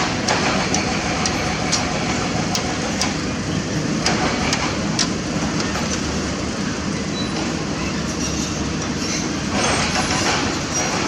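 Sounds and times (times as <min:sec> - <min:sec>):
diesel machinery running: 0:00.0 - 0:11.0.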